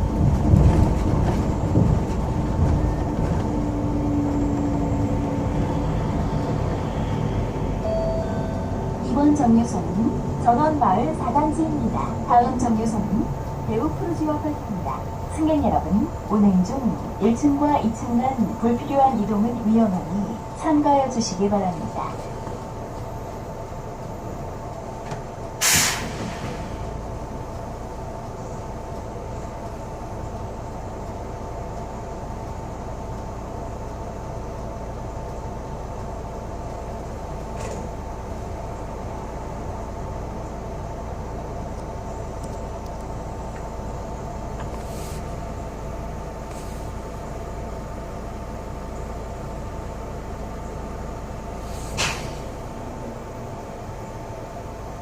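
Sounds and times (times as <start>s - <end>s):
bus engine and road hum: 0.0s - 55.0s.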